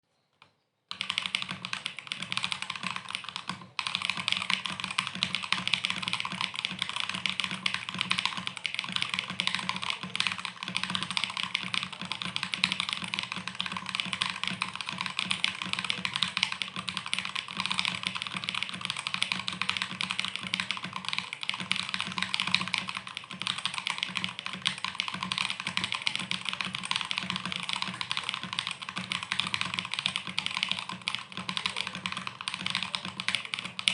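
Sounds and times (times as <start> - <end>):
fast typing on mechanical keyboard: 0.9 - 33.9.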